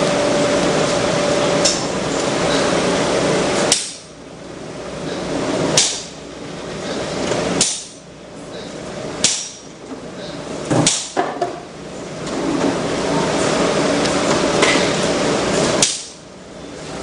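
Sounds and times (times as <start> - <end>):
continuous rushing noise: 0.0 - 17.0.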